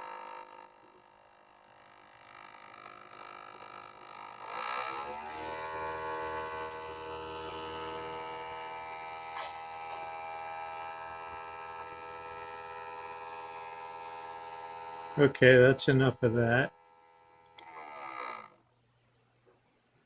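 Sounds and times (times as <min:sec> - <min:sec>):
disc drive buzzing: 0:00.0 - 0:18.7.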